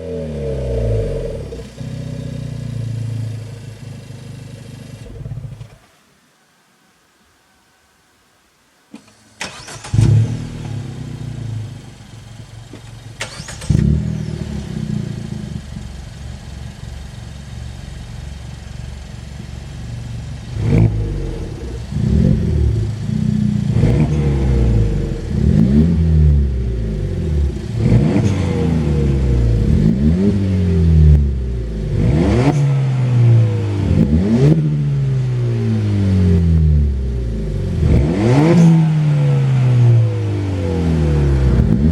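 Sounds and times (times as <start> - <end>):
car engine revving: 0.0 - 3.9, 9.4 - 41.9
car engine starting: 0.0 - 6.0, 8.9 - 41.9.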